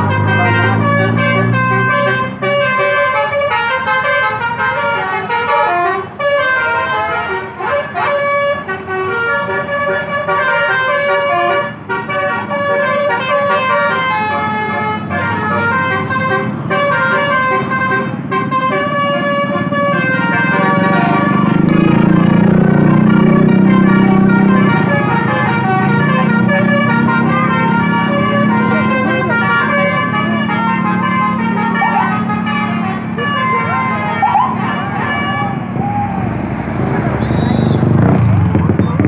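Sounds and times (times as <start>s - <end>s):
musical bus air horns: 0.0s - 36.3s, 37.1s - 38.3s.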